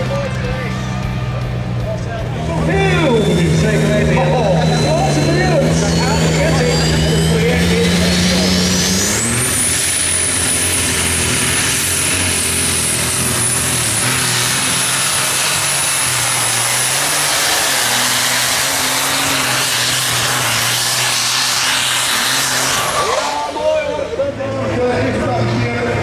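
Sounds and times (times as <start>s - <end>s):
high engine whine: 0.0s - 26.0s
tractor engine at full power: 0.0s - 26.0s.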